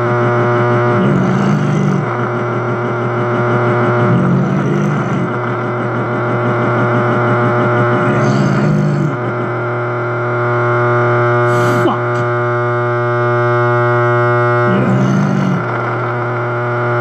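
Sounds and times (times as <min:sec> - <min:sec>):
electronic noise drone: 0:00.0 - 0:17.0.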